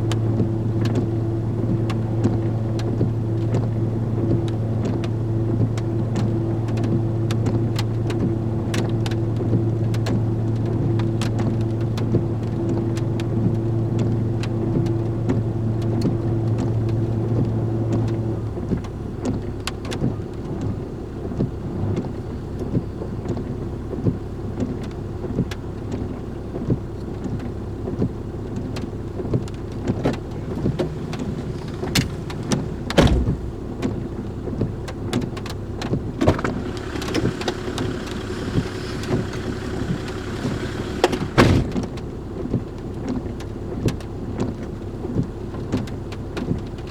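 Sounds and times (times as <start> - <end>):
vehicle engine humming: 0.0 - 44.2
rain pattering: 0.0 - 46.9.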